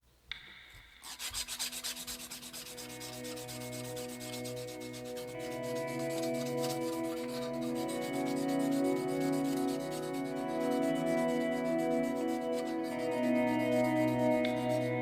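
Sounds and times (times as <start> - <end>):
sandpaper rubbing on metal hook: 1.0 - 15.0.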